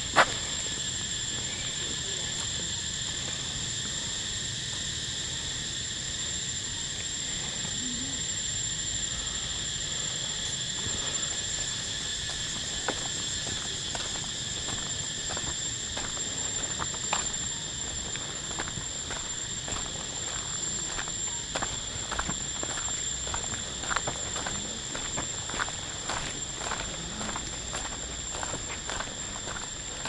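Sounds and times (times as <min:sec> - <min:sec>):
insect chorus droning: 0:00.0 - 0:30.0.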